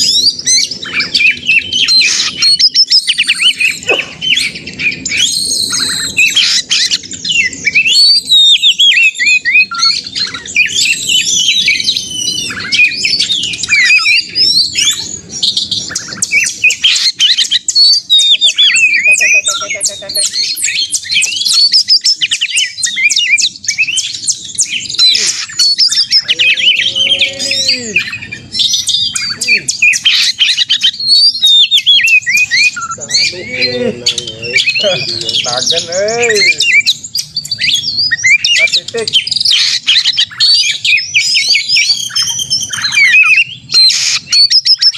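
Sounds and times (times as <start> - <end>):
bird singing whistles and trills: 0.0 - 44.9.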